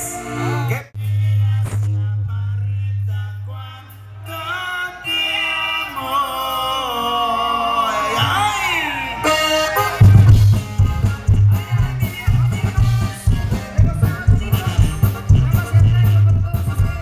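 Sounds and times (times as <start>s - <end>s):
live band steady low note: 0.0s - 5.2s, 8.3s - 17.0s.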